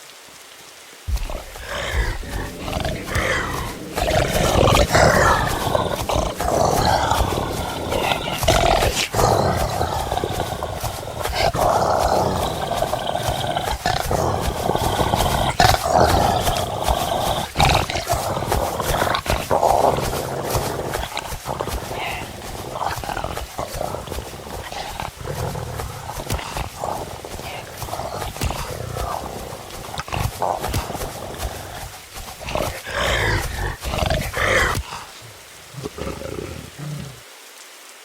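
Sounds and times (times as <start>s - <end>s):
loud animal cries: 1.1s - 35.2s.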